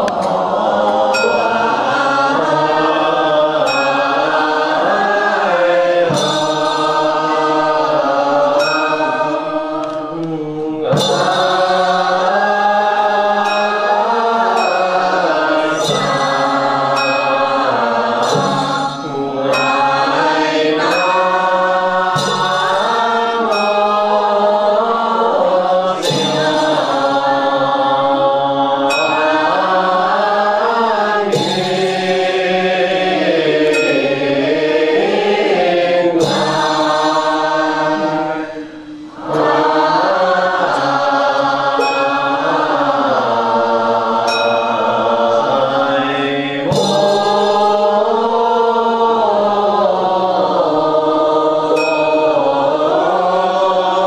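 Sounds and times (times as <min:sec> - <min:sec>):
group chanting in unison: 0:00.0 - 0:54.0
sharp percussion strikes: 0:00.0 - 0:54.0.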